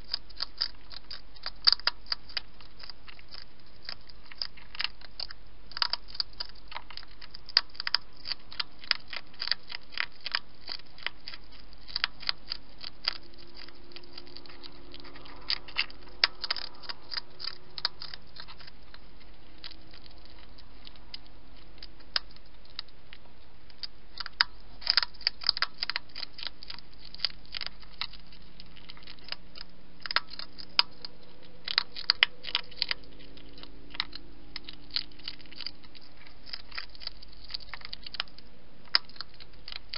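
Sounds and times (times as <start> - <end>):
hedgehog chewing and crunching: 0.0 - 39.9.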